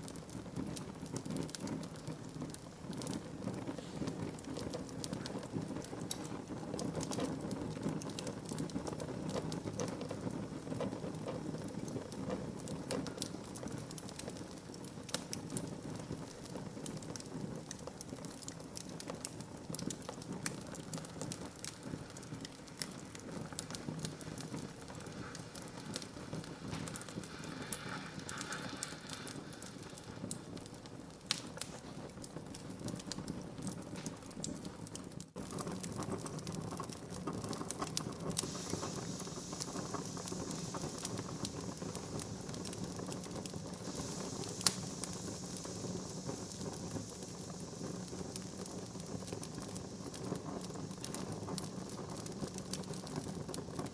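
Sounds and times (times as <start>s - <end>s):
fire low hiss: 0.0s - 53.9s
wood fire crackling: 0.0s - 53.9s.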